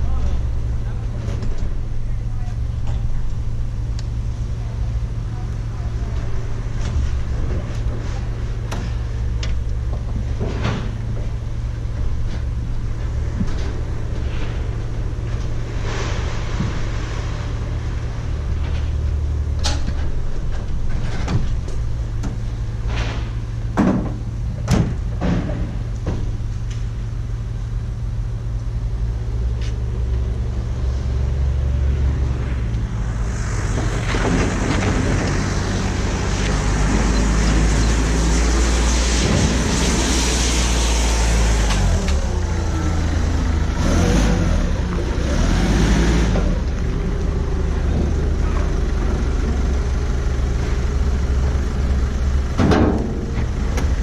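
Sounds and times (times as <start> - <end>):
vehicle engine droning: 0.0 - 54.0.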